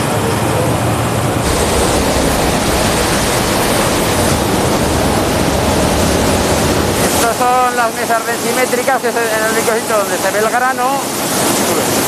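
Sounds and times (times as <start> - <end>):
grain-handling machinery rushing: 0.2 - 12.0.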